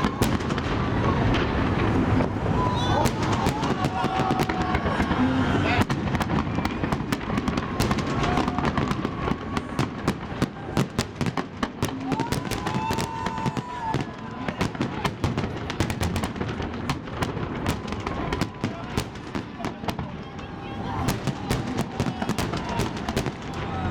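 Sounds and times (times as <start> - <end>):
fireworks bangs and crackles: 0.0 - 23.9
steady background noise: 0.0 - 23.9.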